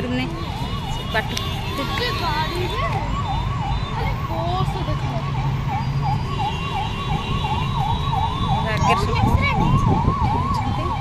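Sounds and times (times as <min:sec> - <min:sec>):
road traffic rumble: 0:00.0 - 0:11.0
siren yelping: 0:00.0 - 0:11.0.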